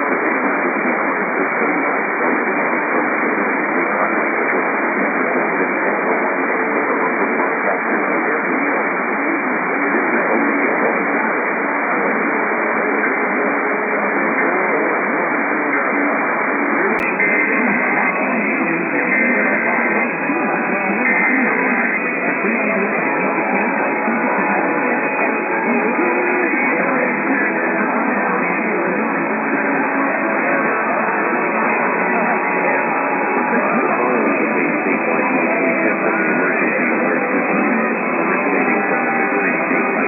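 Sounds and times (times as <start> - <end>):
music with guitar: 0.0 - 40.0
radio static hiss: 0.0 - 40.0.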